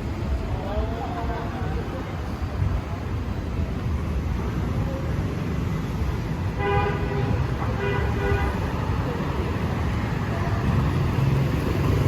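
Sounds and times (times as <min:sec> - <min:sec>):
city traffic rumbling: 0:00.0 - 0:12.0.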